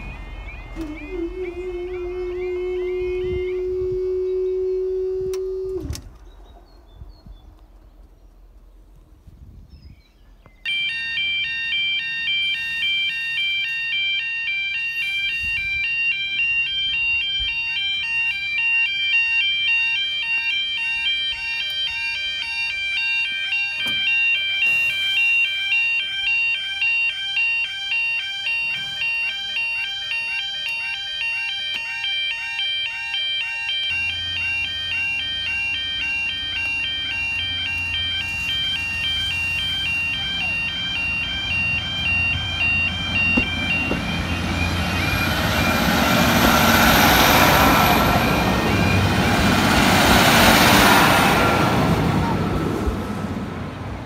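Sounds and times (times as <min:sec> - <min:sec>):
level crossing alarm warbling: 0:00.0 - 0:05.9, 0:10.7 - 0:53.5.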